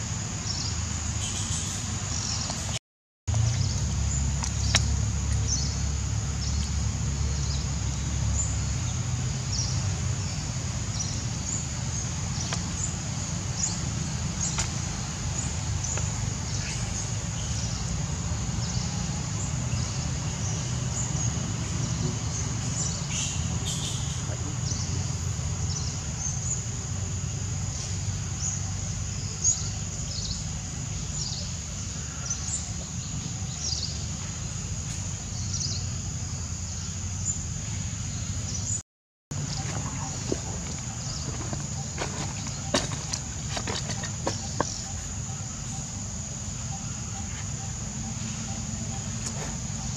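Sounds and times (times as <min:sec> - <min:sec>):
high insect-like hum: 0:00.0 - 0:49.9.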